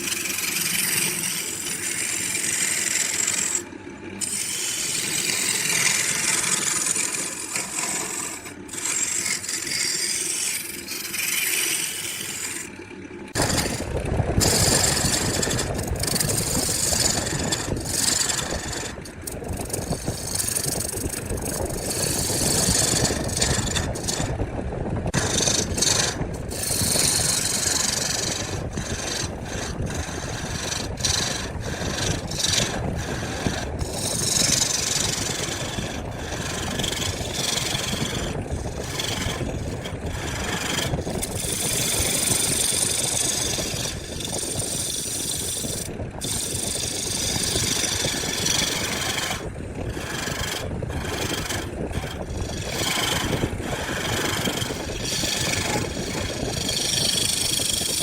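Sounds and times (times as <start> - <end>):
hand tool scraping wood: 0.0 - 24.3, 25.1 - 58.0
machine running: 2.9 - 24.3, 25.0 - 57.8.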